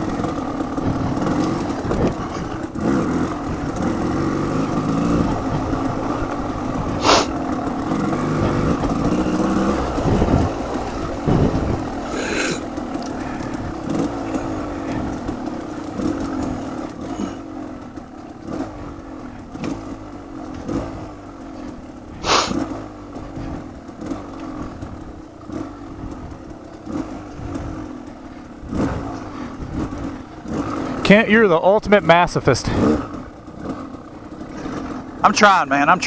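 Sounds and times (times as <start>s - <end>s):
knocks and clatter from bike: 0.0s - 31.1s, 32.7s - 35.3s
off-road motorcycle engine: 0.0s - 36.0s.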